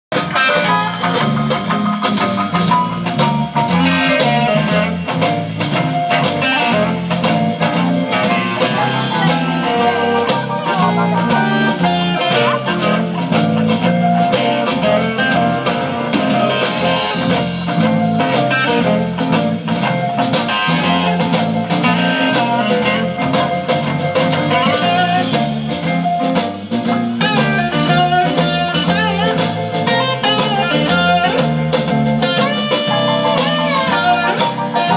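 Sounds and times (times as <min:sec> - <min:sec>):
drum kit beat: 0:00.1 - 0:34.9
electric guitars: 0:00.1 - 0:34.9.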